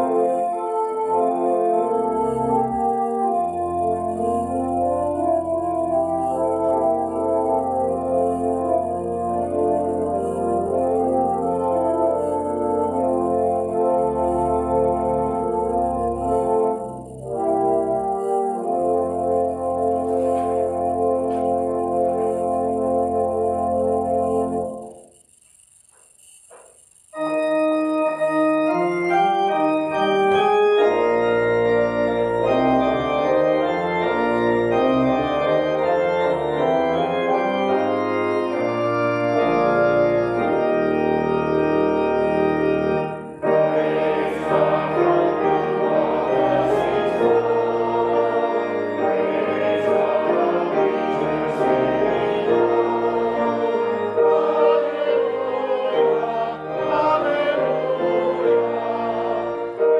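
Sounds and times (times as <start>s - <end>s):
church organ playing chords: 0.0s - 25.2s, 27.1s - 59.9s
congregation singing: 0.0s - 25.2s, 28.6s - 59.9s.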